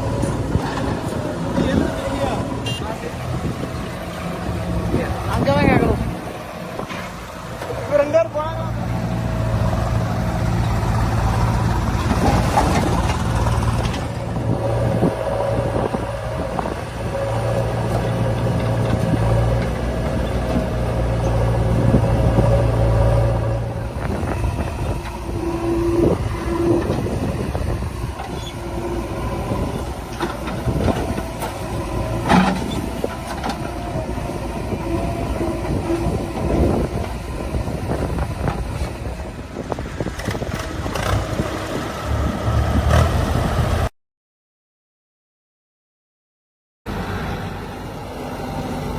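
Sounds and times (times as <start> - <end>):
heavy diesel engine running: 0.0 - 43.8.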